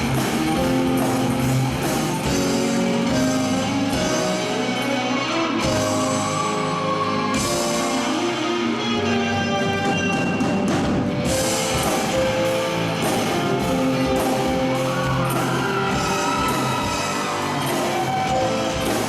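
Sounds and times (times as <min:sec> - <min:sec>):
live band instrumental music: 0:00.0 - 0:19.0.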